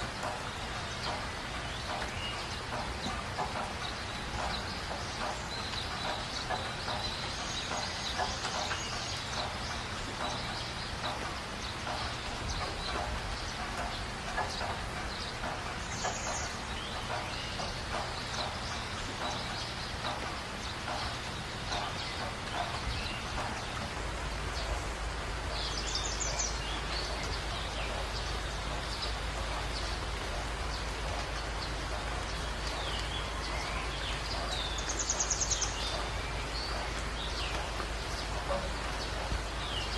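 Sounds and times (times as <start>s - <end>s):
constant low rumble: 0.0s - 39.9s.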